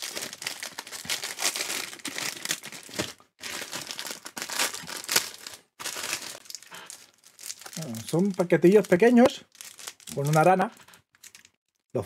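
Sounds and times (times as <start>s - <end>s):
plastic wrapper crinkling: 0.0s - 11.8s.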